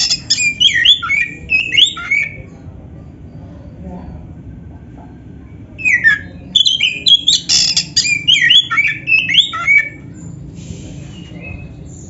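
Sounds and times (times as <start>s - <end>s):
songbird singing: 0.0s - 3.8s, 5.8s - 12.0s.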